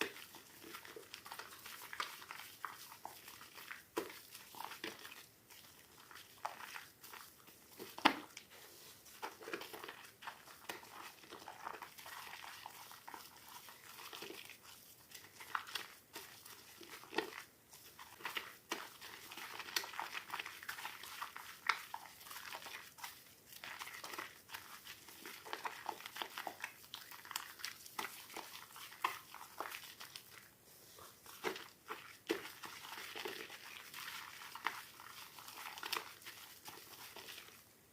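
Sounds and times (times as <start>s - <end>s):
wet soap crackling and squishing: 0.0s - 37.9s.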